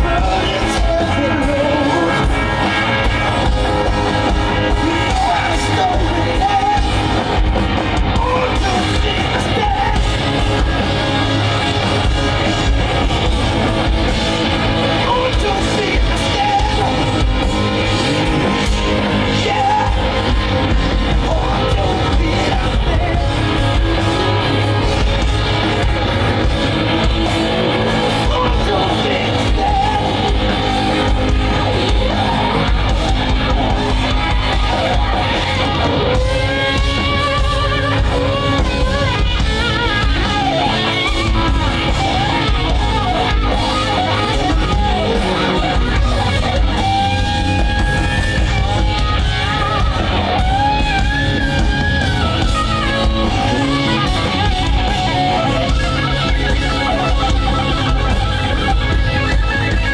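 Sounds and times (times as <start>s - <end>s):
bass guitar: 0.0s - 59.9s
drums: 0.0s - 59.9s
electric guitars: 0.0s - 59.9s
guitar lead line bending in pitch: 0.0s - 59.9s.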